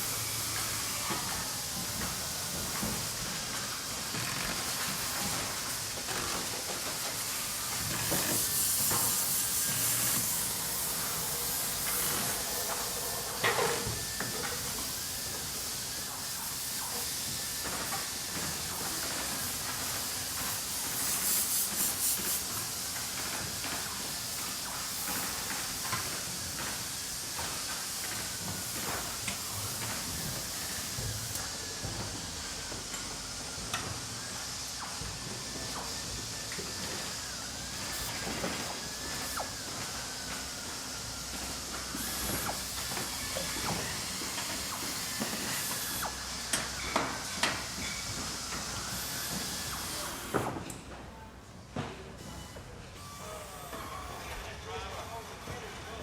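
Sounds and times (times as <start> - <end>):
pulsing hiss: 0.0 - 50.6
factory machinery noise: 0.0 - 56.0.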